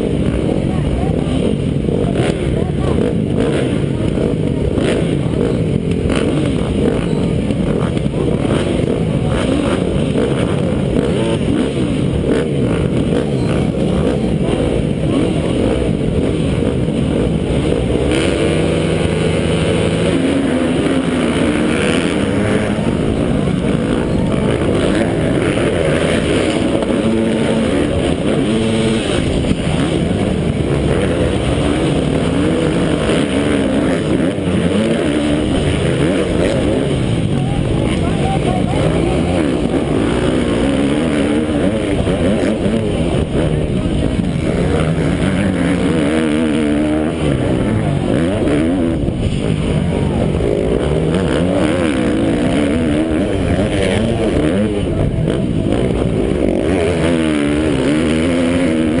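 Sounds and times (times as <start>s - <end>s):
dirt bike engine racing: 0.0s - 59.0s
loud steady rumbling: 0.0s - 59.0s.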